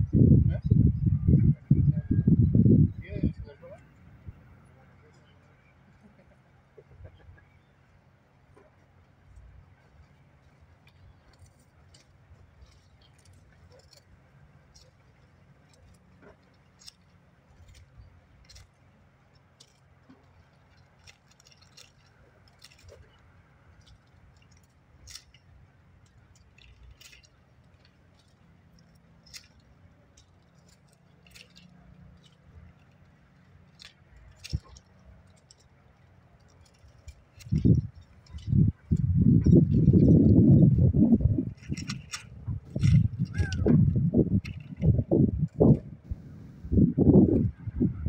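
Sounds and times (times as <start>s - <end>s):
leaves rustling and clicking: 3.4s - 48.0s.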